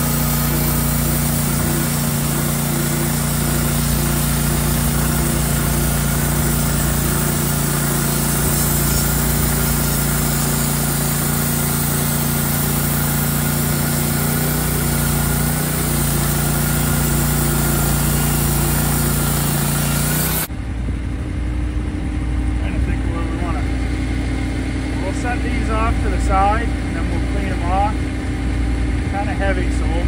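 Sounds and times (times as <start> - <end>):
gas engine running: 0.0 - 30.0.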